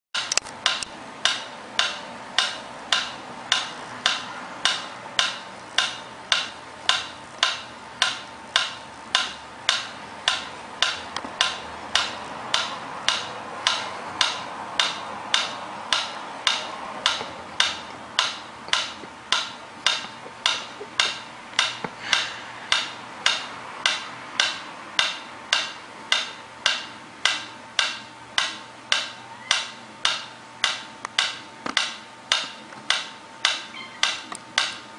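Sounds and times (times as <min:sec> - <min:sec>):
metronome ticking: 0:00.2 - 0:34.9.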